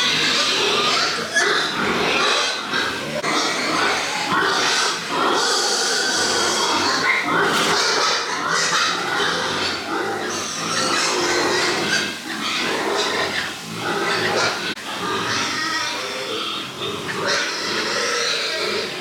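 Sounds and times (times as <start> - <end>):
pigs grunting and calling: 0.0 - 19.0.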